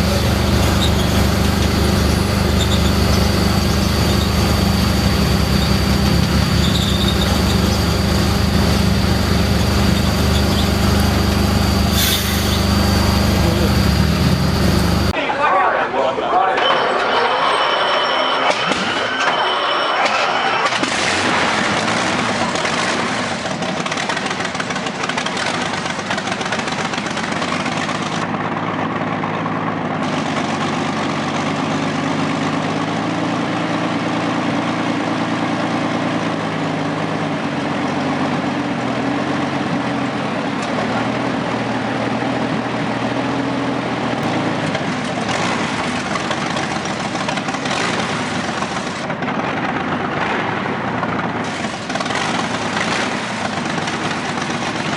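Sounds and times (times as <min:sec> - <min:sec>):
big engine idling: 0:00.0 - 0:15.2, 0:22.5 - 0:54.9.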